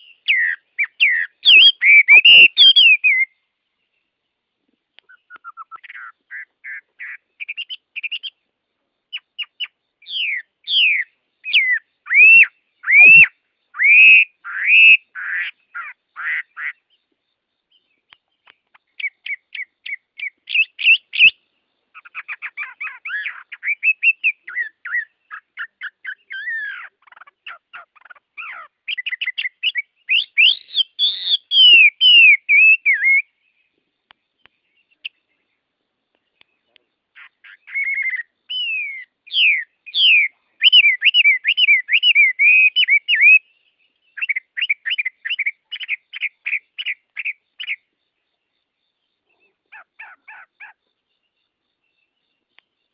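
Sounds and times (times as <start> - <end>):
songbird chirping and whistling: 0.0 - 52.9.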